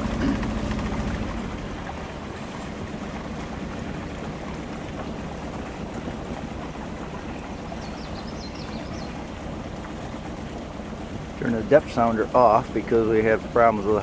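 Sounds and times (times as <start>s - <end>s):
low engine hum: 0.0s - 14.0s
water rushing along hull: 0.0s - 14.0s.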